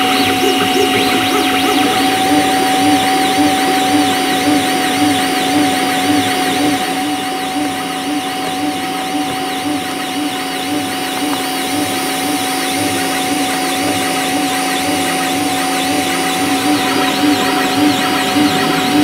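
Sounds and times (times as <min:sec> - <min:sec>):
printer stepper motors whining: 0:00.0 - 0:19.0.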